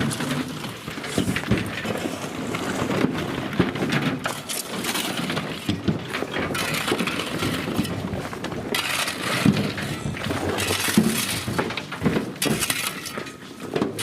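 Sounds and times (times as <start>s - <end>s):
ballast stone pouring and clattering: 0.0s - 14.0s.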